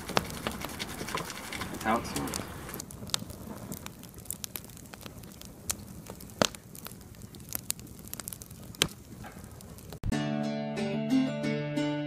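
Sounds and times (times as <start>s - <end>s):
campfire crackling: 0.0s - 10.1s
sharp pops from burning sticks: 0.0s - 10.1s.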